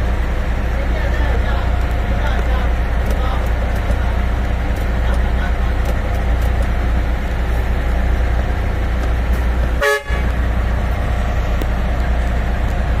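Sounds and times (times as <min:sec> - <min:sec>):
dump truck engine rumbling: 0:00.0 - 0:13.0.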